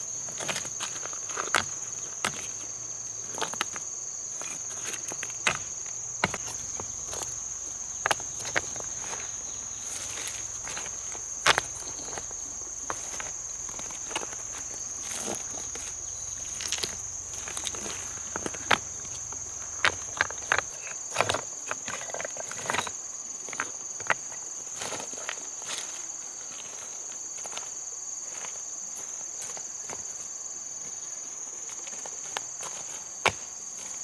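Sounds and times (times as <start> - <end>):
high-pitched insect trill: 0.0 - 34.0.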